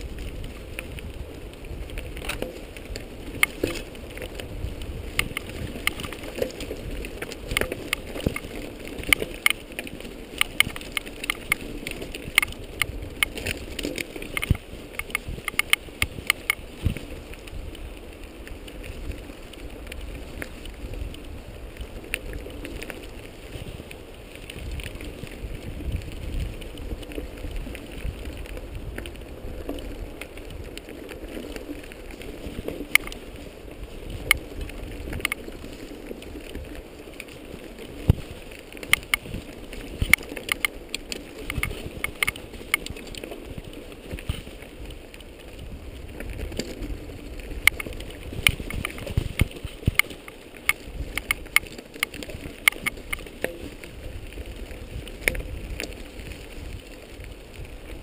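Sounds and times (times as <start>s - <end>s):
bike rattling over bumps: 0.0s - 58.0s
tyres rumbling on dirt trail: 0.0s - 58.0s
wind on camera: 0.0s - 58.0s.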